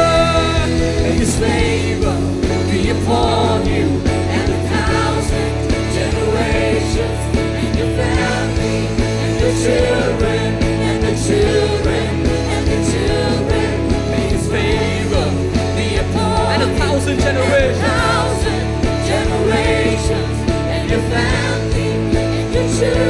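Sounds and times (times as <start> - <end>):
drums: 0.0 - 23.0
keyboards: 0.0 - 23.0
man and woman singing: 0.0 - 23.0.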